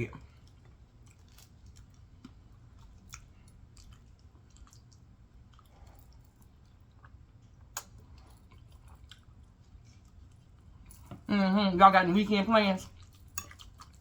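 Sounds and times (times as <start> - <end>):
person chewing food: 0.2 - 11.3, 12.9 - 14.0.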